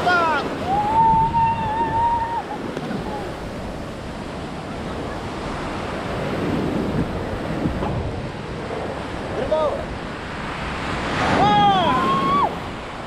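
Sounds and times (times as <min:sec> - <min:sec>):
ocean waves washing: 0:00.0 - 0:13.0
wind buffeting microphone: 0:00.0 - 0:13.0.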